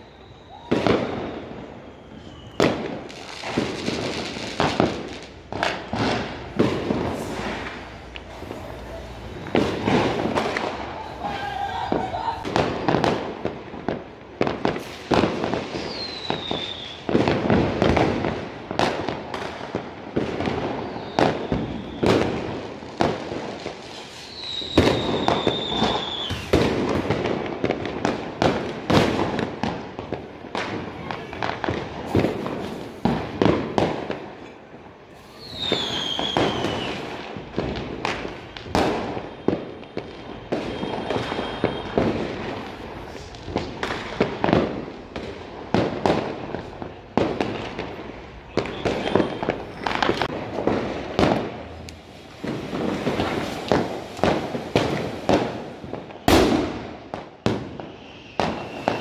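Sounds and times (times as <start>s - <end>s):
falling firework whistle: 0.0s - 13.6s, 14.4s - 18.3s, 19.3s - 27.2s, 35.0s - 59.0s
fireworks bangs and crackles: 0.0s - 59.0s.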